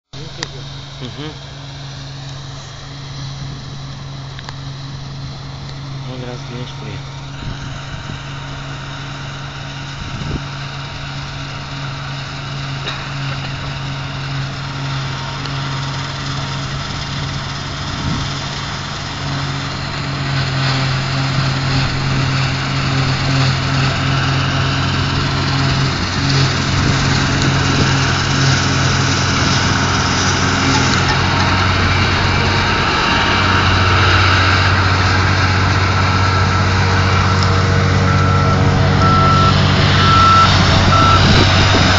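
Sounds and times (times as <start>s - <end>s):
combine harvester running: 0.1s - 41.9s.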